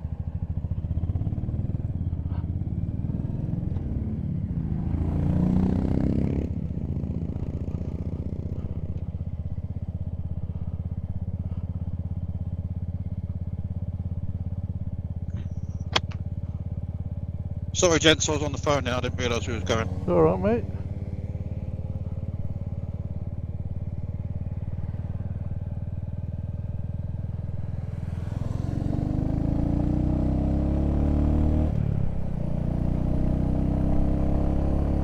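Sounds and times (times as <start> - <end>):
motorcycle engine idling: 0.0 - 29.5
motorcycle pulling away: 0.0 - 35.0.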